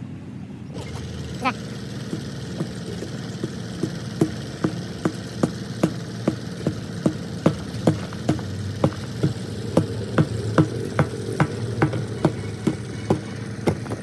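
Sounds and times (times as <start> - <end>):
motor running: 0.7 - 14.0
sharp repeating knock: 1.8 - 14.0.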